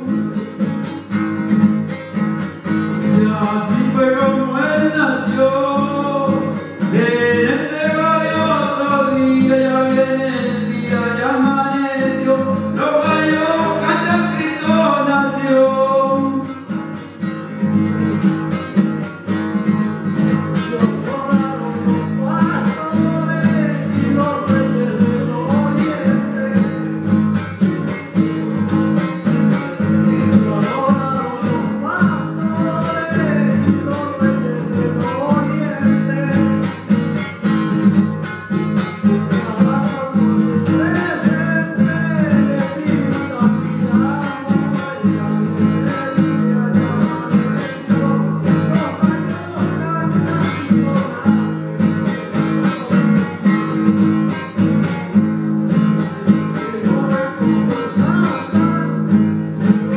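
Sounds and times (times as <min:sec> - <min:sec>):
man singing into microphone: 0:00.0 - 0:00.6, 0:02.9 - 0:16.7, 0:20.3 - 0:27.4, 0:29.4 - 0:37.6, 0:38.6 - 0:54.8, 0:55.8 - 0:59.9
strummed acoustic guitar: 0:00.0 - 0:59.9.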